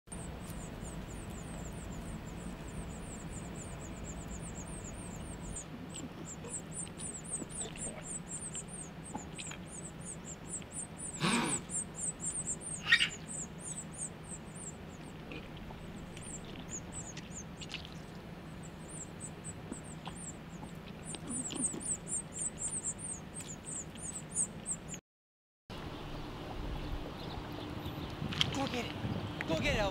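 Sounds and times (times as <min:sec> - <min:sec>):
nestling birds cheeping: 0:00.1 - 0:25.0, 0:25.8 - 0:29.9
steady low hum: 0:00.1 - 0:25.0, 0:25.7 - 0:29.9.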